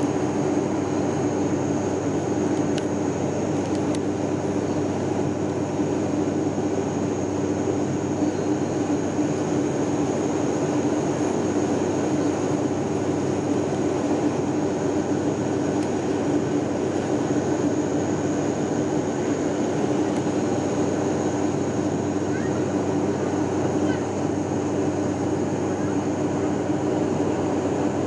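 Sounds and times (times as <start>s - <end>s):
engine and airflow drone: 0.0s - 28.0s
high steady whine: 0.0s - 28.0s.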